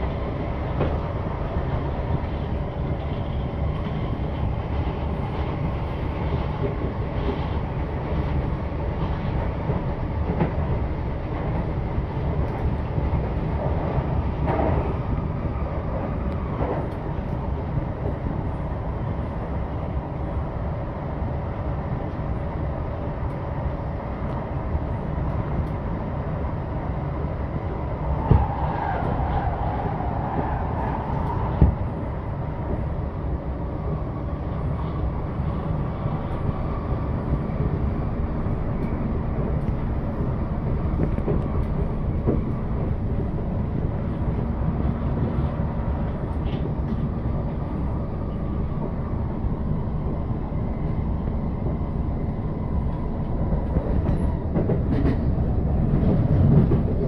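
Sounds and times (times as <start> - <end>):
metro train wheels and motors rumbling: 0.0 - 57.0
passing train rushing: 0.0 - 57.0.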